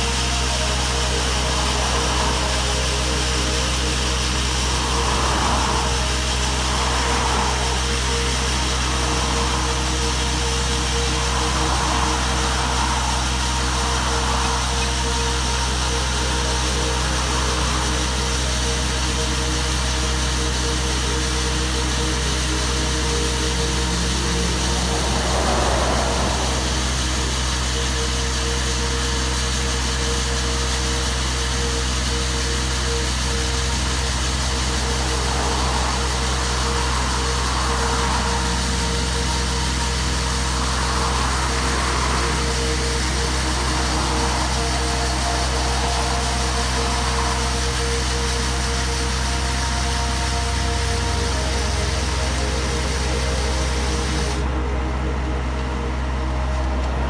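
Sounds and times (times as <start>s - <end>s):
core drill cutting asphalt: 0.0s - 54.6s
diesel engine running: 0.0s - 57.0s
road traffic passing: 0.0s - 57.0s.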